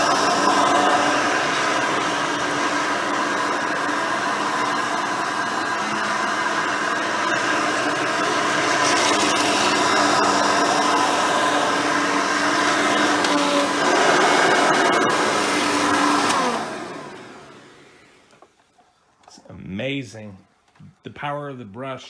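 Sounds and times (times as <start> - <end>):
upright vacuum running on carpet: 0.0 - 18.4.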